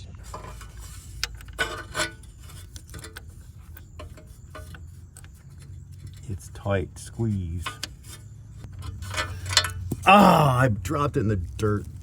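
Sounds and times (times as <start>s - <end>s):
small metallic clicks and scrapes: 0.0s - 10.1s
low steady rumble: 0.0s - 12.0s.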